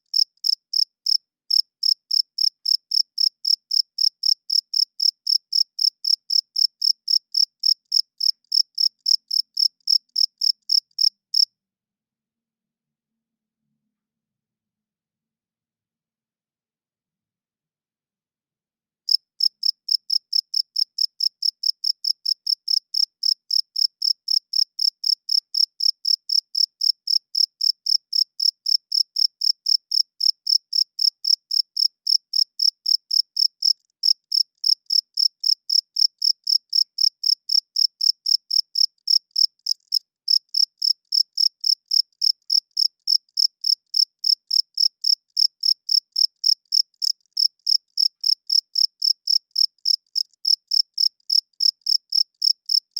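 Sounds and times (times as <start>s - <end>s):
cricket chirping: 0.1s - 11.5s, 19.1s - 52.9s.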